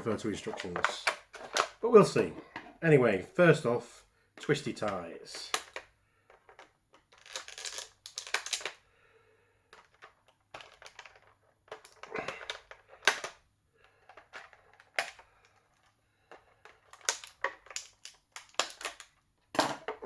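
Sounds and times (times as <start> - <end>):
plastic clicks and rustling: 0.3 - 2.8, 4.4 - 8.8, 9.7 - 20.0.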